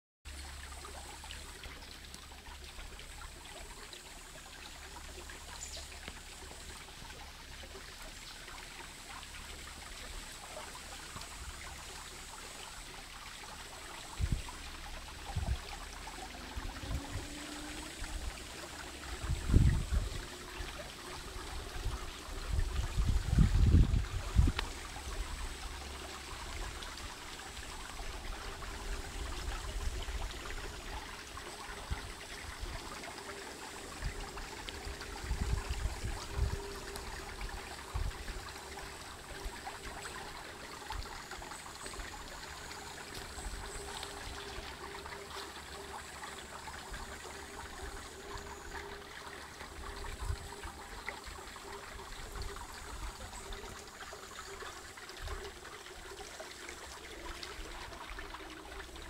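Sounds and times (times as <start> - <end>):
stream flowing and trickling: 0.2 - 59.0.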